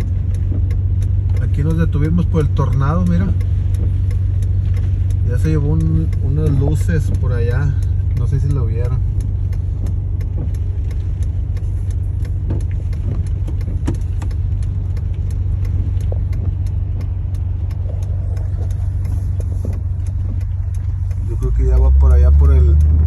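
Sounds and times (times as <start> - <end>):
car driving rumble: 0.0 - 23.0
faint light ticks: 0.0 - 23.0.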